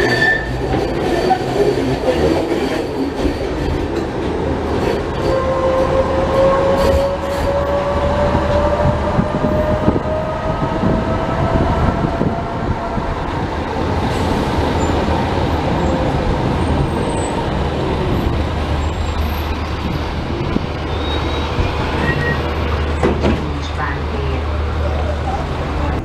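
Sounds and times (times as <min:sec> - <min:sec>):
tram wheels rumbling: 0:00.0 - 0:26.0.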